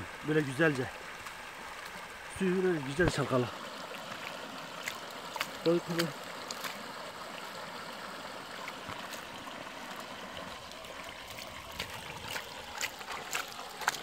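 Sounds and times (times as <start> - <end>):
creek water running: 0.0 - 14.0
water splashing and dripping: 0.0 - 14.0.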